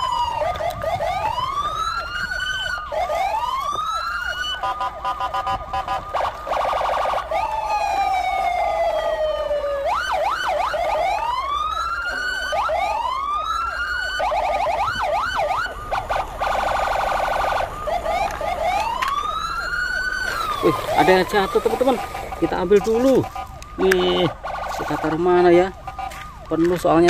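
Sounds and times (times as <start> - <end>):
electronic siren: 0.0 - 27.0.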